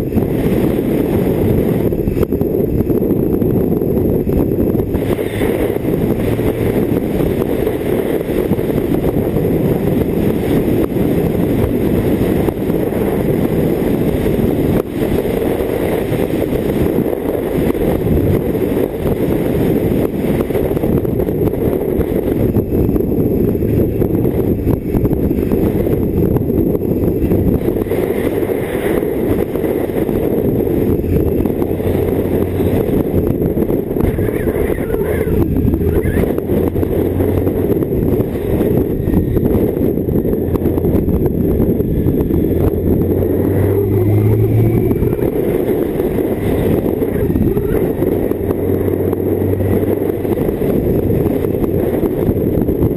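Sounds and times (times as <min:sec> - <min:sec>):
motorcycle engine and wind rush: 0:00.0 - 0:52.9.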